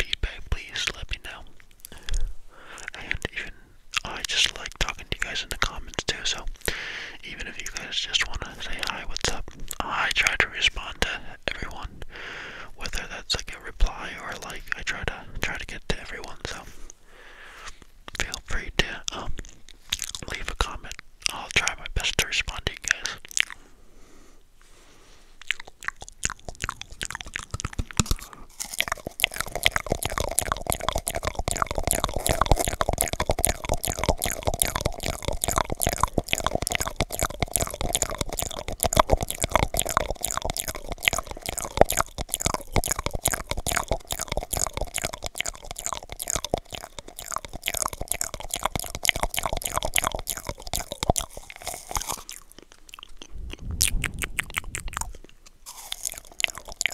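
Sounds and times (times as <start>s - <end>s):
lip smacks: 0.0s - 10.8s, 17.6s - 23.7s, 25.3s - 56.9s
tongue clicks: 0.0s - 11.8s, 17.7s - 23.7s, 25.4s - 56.9s.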